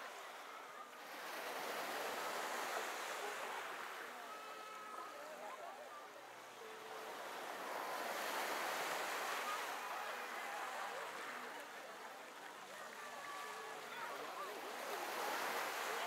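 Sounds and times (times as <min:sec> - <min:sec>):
faint distant voices: 0:00.0 - 0:16.0
wind and water rushing: 0:00.0 - 0:16.0.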